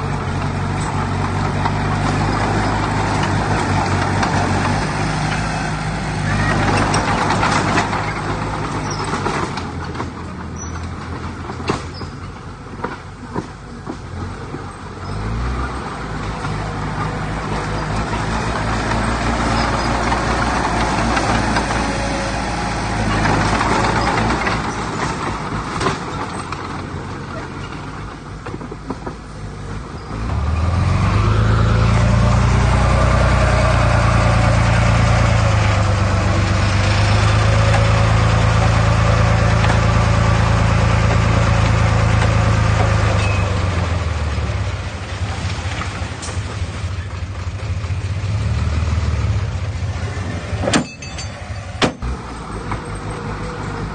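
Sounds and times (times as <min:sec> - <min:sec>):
heavy diesel machinery engine: 0:00.0 - 0:53.9.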